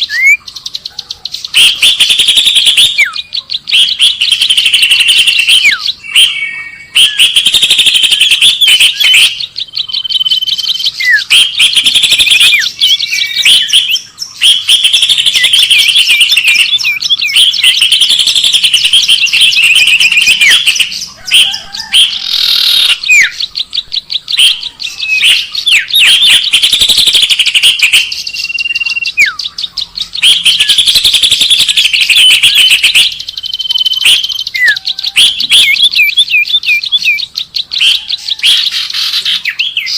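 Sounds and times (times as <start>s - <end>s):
bird whistles: 0.0s - 39.9s
songbirds chattering and chirping: 0.0s - 39.9s.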